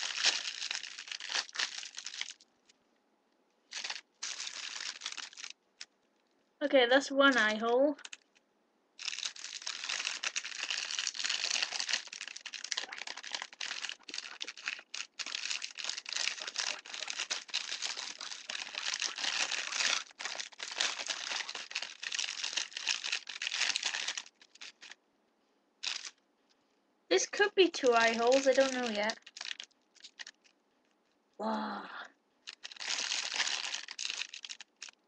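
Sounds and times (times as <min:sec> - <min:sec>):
plastic bag crinkling: 0:00.0 - 0:02.4, 0:03.7 - 0:05.9, 0:07.2 - 0:08.4, 0:09.0 - 0:25.0, 0:25.8 - 0:26.2, 0:27.2 - 0:30.6, 0:32.4 - 0:35.0.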